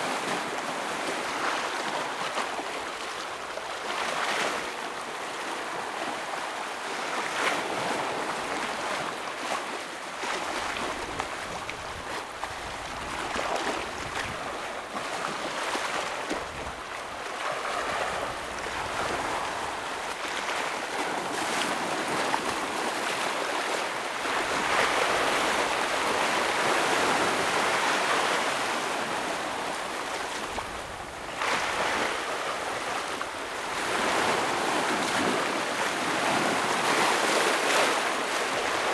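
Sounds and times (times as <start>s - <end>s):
ocean waves breaking on rocks: 6.3s - 38.9s.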